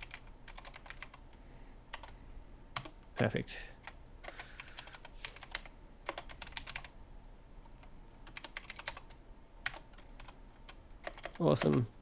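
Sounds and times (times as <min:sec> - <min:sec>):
computer keyboard typing: 0:00.0 - 0:01.3, 0:01.9 - 0:02.1, 0:02.7 - 0:07.0, 0:07.6 - 0:12.0.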